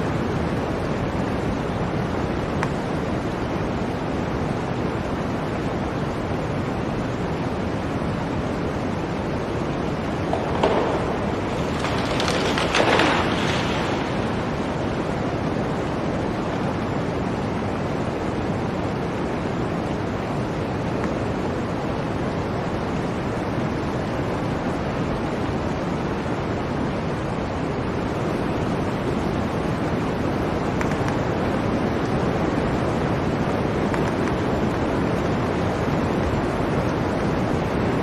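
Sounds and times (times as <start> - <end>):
blizzard wind blowing: 0.0 - 38.0.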